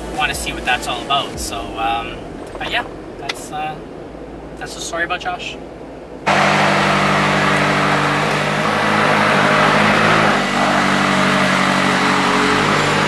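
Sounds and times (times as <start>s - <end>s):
sports car engine idling: 0.0s - 13.0s.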